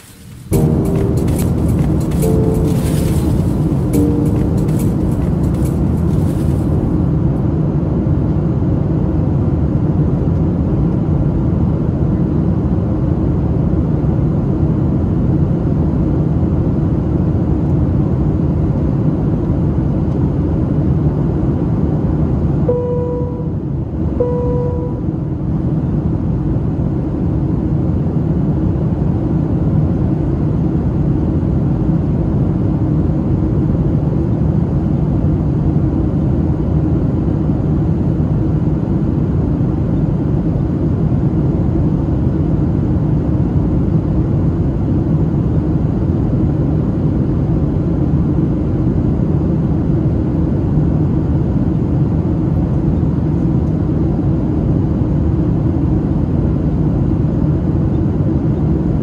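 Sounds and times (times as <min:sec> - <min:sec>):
jet engine rumble in cabin: 0:00.0 - 0:59.0.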